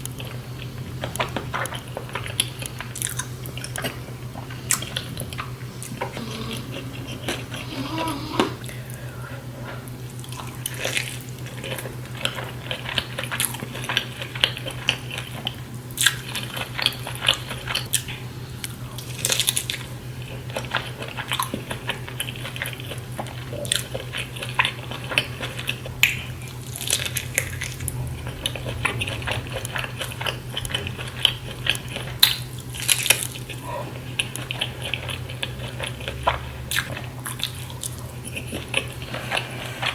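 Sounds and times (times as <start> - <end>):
wet chewing and biting: 0.0 - 8.0, 10.1 - 39.9.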